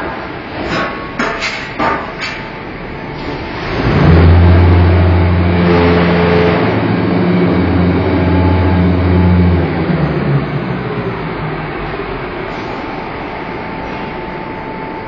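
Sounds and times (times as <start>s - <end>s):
block-making machine humming: 0.0s - 15.0s
machinery noise: 0.0s - 15.0s.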